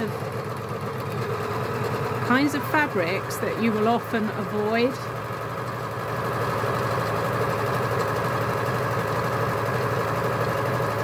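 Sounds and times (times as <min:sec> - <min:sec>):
overlocker sewing: 0:00.0 - 0:11.0.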